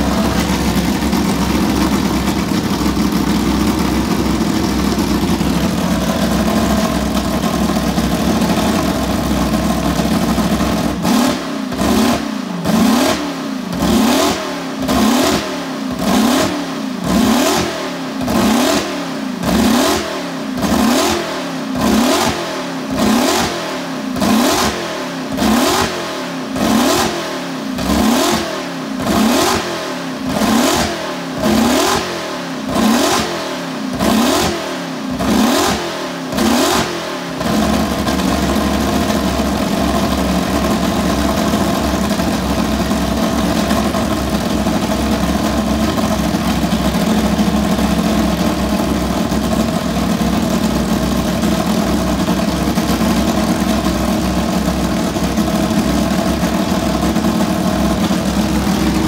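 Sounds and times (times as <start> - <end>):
engine holding steady revs: 0.0 - 59.0
racing engine revving: 0.0 - 59.0.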